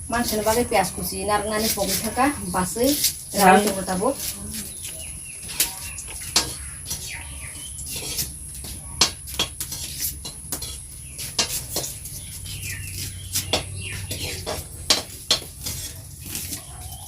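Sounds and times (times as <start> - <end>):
kitchen utensils and pots clinking: 0.0 - 17.0.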